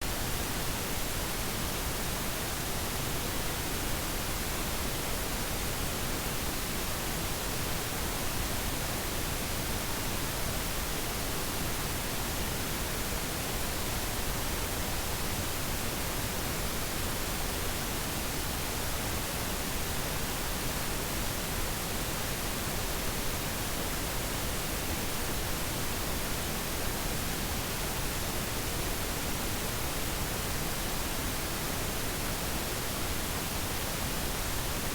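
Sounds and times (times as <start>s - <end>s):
steady static hiss: 0.0s - 34.9s.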